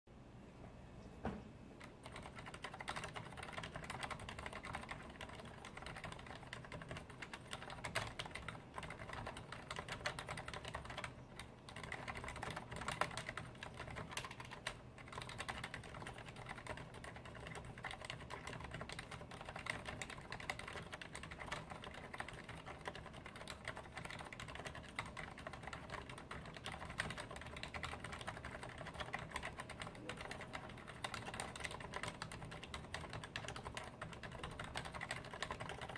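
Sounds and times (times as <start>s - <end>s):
fast typing on mechanical keyboard: 1.8s - 35.9s.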